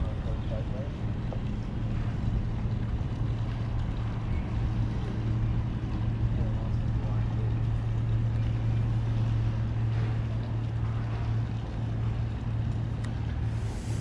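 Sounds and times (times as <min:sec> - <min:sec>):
boat engine low hum: 0:00.0 - 0:14.0.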